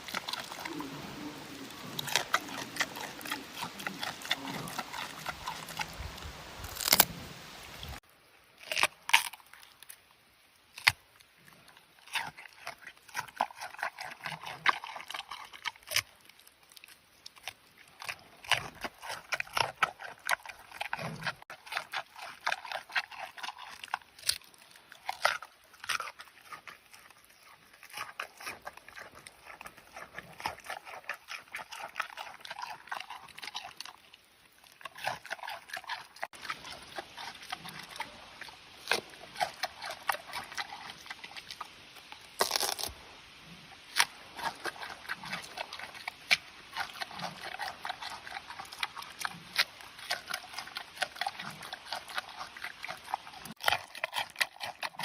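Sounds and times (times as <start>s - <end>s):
panda chewing with wet crunches: 0.0s - 7.2s, 10.6s - 55.0s.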